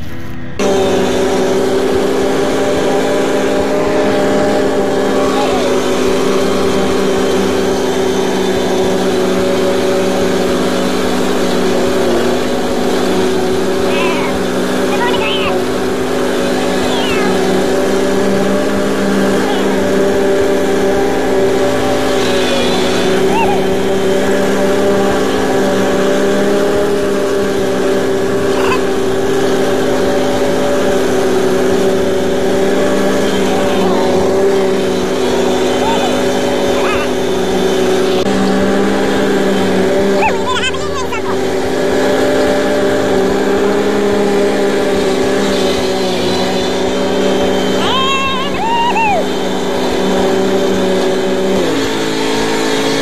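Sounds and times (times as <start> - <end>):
riding lawn mower engine running: 0.0 - 53.0.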